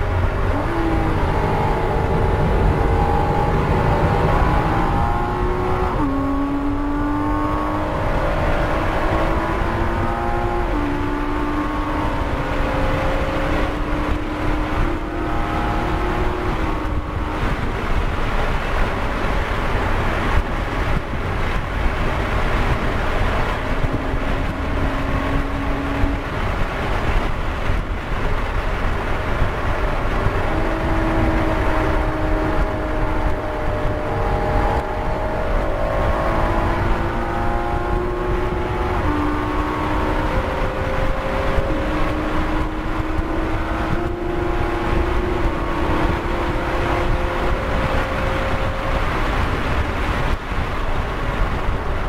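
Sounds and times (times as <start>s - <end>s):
car engine accelerating: 0.0s - 52.0s
road noise: 0.0s - 52.0s
wind noise: 0.0s - 52.0s.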